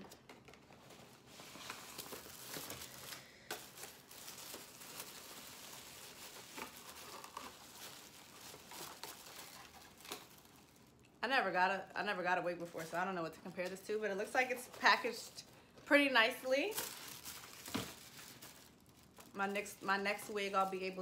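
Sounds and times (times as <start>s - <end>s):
packaging crinkling and rustling: 0.0s - 11.2s, 12.3s - 21.0s.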